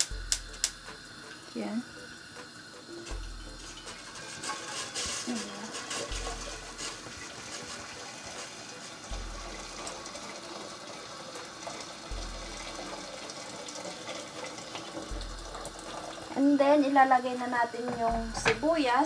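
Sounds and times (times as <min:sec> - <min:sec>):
water pouring into metal pot: 0:00.4 - 0:19.0.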